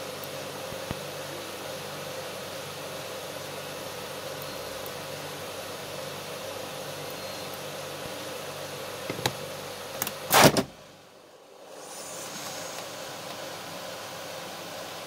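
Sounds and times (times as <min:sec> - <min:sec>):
vacuum former humming: 0:00.0 - 0:15.0.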